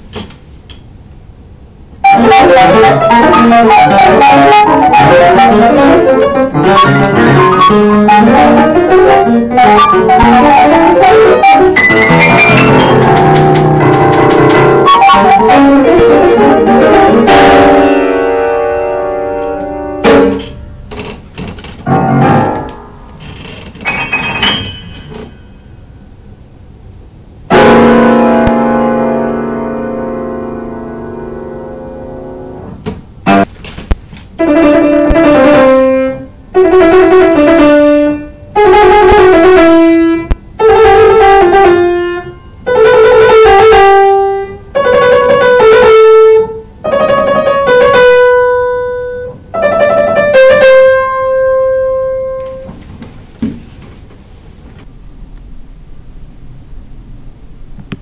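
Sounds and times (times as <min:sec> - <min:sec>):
solo grand piano: 0:02.0 - 0:20.7, 0:21.8 - 0:26.3, 0:27.5 - 0:33.5, 0:34.4 - 0:53.7.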